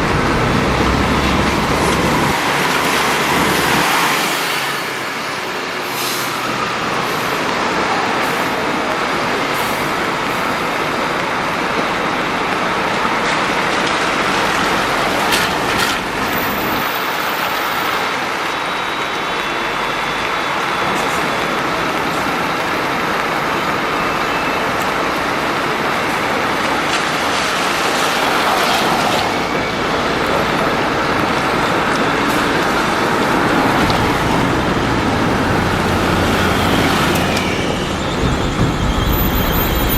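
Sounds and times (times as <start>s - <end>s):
heavy vehicles passing: 0.0s - 39.9s.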